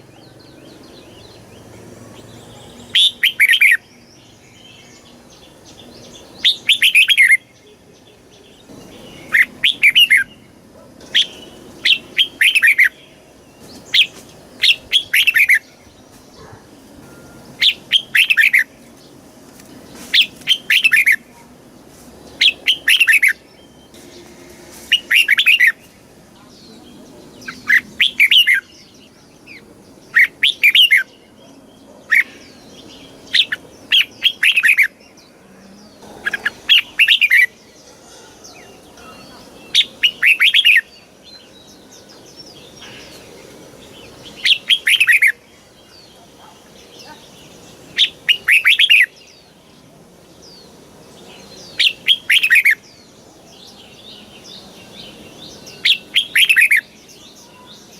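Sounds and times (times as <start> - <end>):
bird singing sweeping notes: 0.0 - 19.3, 22.2 - 57.9.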